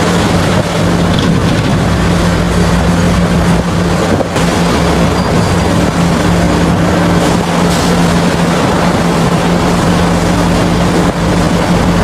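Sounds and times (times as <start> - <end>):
excavator diesel engine hum: 0.0 - 12.0.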